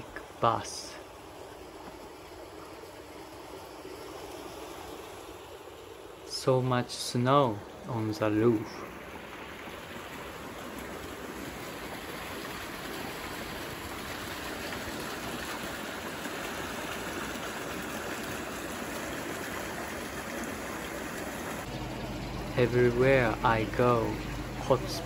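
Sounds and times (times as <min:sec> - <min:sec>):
water rushing through drain: 0:00.0 - 0:25.0.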